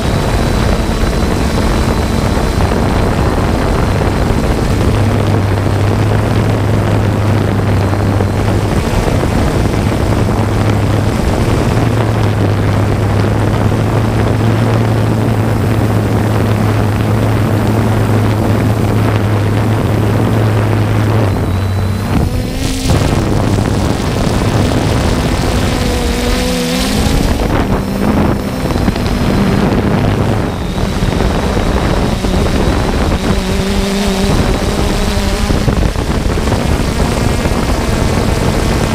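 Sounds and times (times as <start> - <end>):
drone motors humming: 0.0 - 38.9
wind noise on microphone: 0.0 - 38.9.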